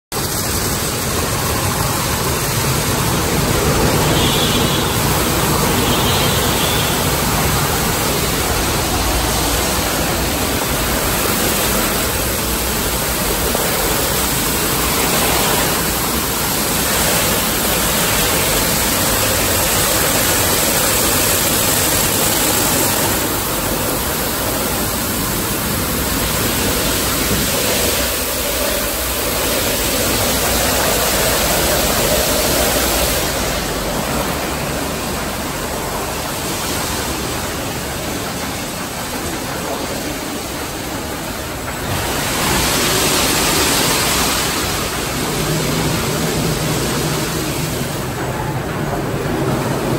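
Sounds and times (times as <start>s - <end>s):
water spray rushing: 0.2s - 49.9s.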